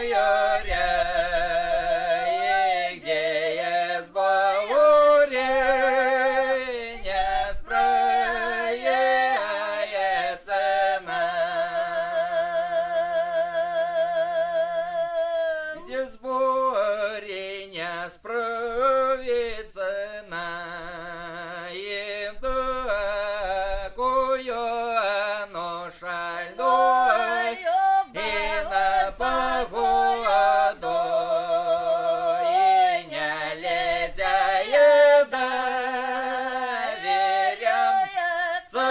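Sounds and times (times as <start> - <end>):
voices singing folk song: 0.0 - 38.9.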